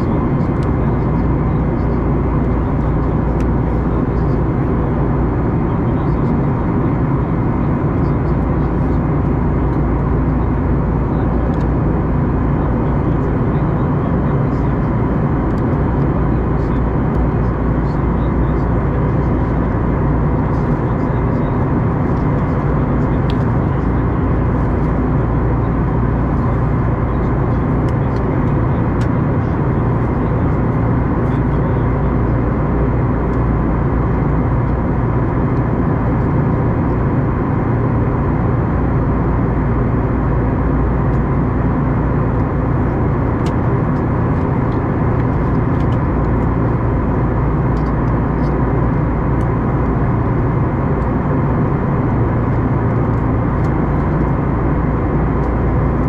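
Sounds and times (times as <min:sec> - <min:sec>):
faint steady tones humming: 0:00.0 - 0:56.0
jet engines droning: 0:00.0 - 0:56.0.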